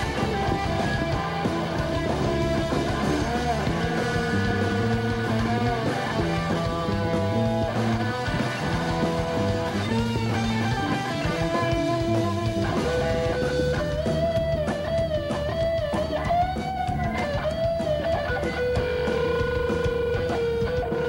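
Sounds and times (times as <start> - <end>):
bass: 0.0 - 21.0
drums: 0.0 - 21.0
electric guitars: 0.0 - 21.0.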